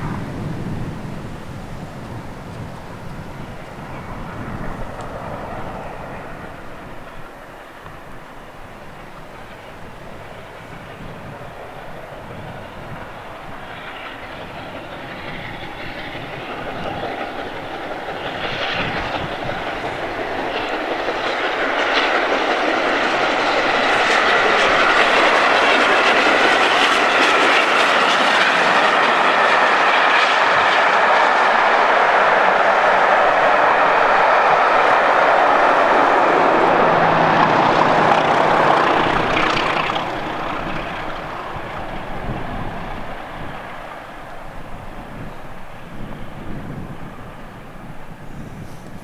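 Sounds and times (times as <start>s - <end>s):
steam locomotive passing at speed: 0.0s - 49.0s.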